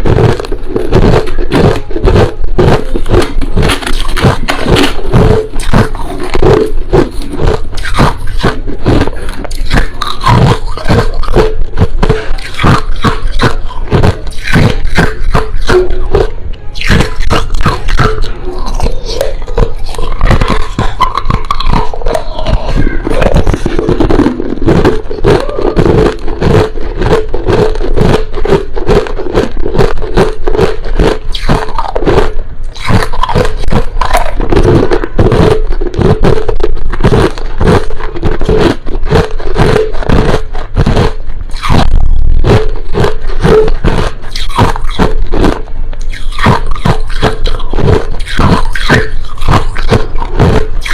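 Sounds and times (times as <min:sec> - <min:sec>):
crushed ice being chewed: 0:00.0 - 0:50.9.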